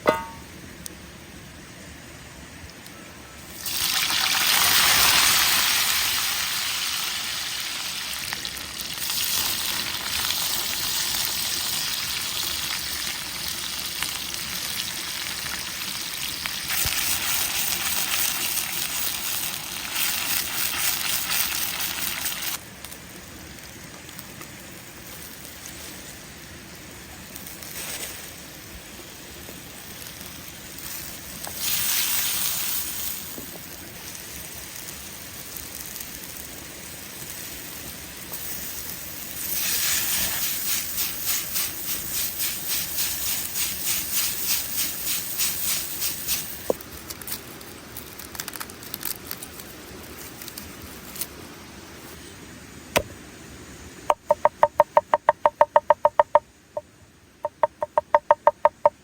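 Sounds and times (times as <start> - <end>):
food sizzling in hot oil: 3.5 - 51.3.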